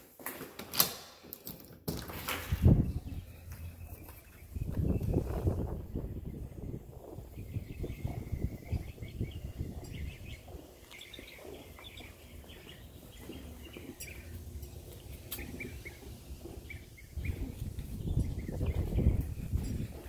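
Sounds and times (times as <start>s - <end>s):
birds chirping: 2.4s - 20.0s
low microphone rumble: 2.6s - 20.0s.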